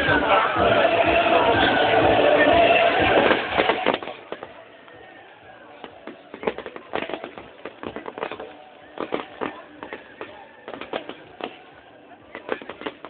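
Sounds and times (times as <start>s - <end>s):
fireworks bangs and crackles: 1.6s - 13.0s.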